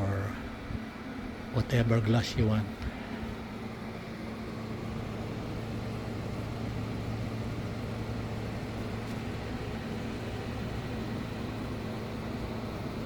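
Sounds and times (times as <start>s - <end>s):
air conditioner hum: 0.0s - 13.0s
fan air hiss: 0.0s - 13.0s.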